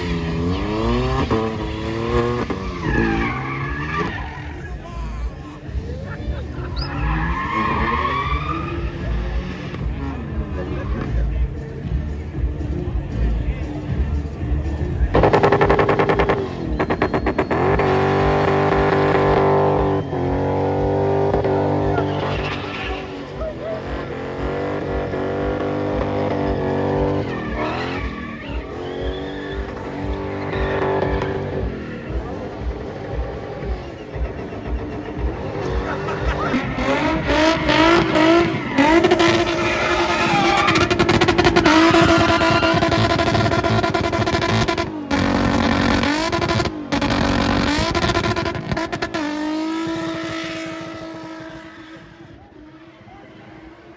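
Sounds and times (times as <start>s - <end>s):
performance car engine revving: 0.0s - 53.9s.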